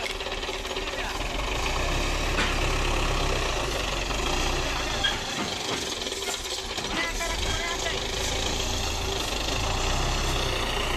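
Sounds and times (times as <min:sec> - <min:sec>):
tractor engine running: 0:00.0 - 0:10.9.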